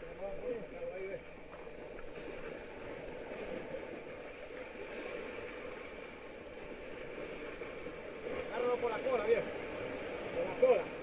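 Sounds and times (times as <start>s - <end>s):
sea surf washing against rocks: 0.0s - 11.0s.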